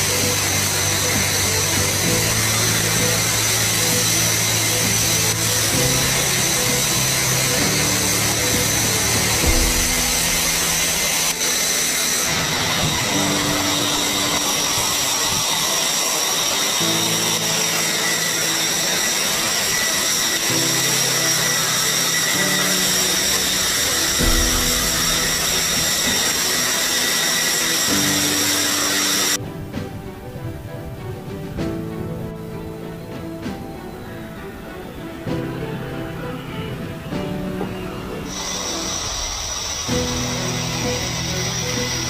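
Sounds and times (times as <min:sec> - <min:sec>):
jet engine idling whine: 0:00.0 - 0:29.4, 0:37.6 - 0:42.0
background music with sustained chords: 0:00.0 - 0:42.0.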